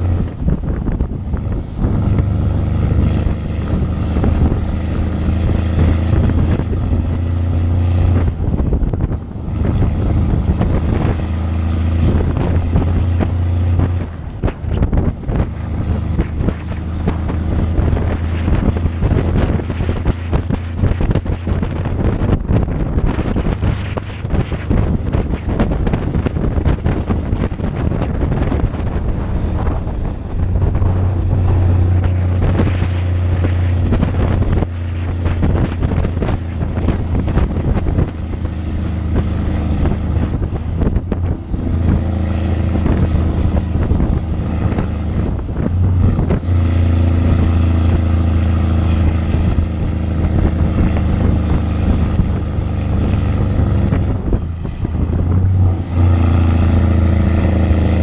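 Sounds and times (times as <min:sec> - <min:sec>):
diesel truck engine droning: 0:00.0 - 0:58.0
wind buffeting microphone: 0:00.0 - 0:58.0.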